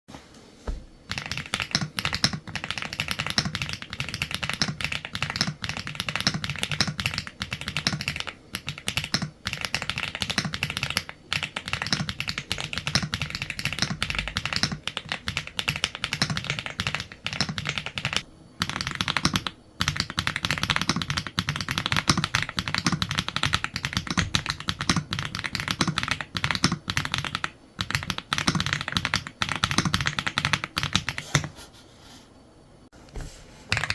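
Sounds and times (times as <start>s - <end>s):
typing on mechanical keyboard: 1.1s - 31.5s.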